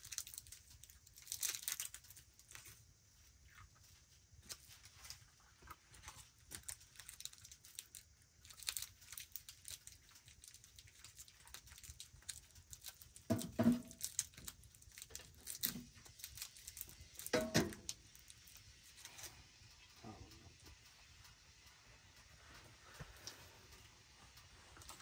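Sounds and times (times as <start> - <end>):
faint crackling and crinkling: 0.0 - 25.0.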